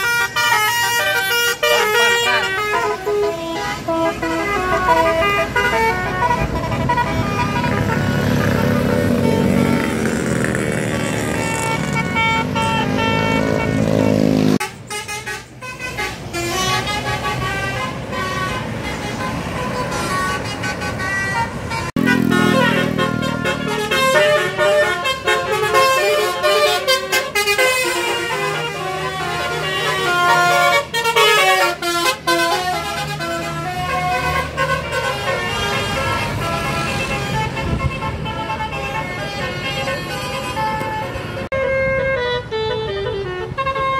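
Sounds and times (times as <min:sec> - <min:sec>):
bus engine running: 0:00.0 - 0:43.9
bus horns playing quick tunes: 0:00.0 - 0:43.9.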